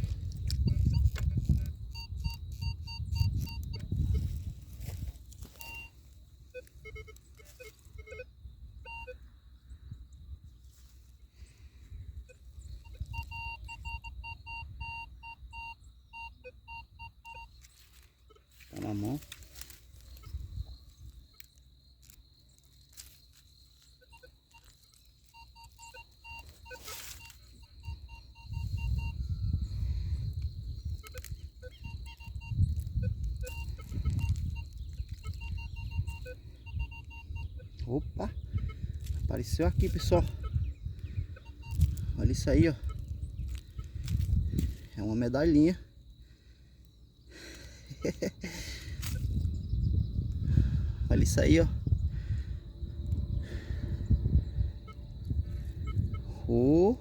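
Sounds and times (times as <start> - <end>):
metal detector beeps: 0.0 - 9.2, 10.7 - 45.8, 47.4 - 51.7, 53.5 - 57.0.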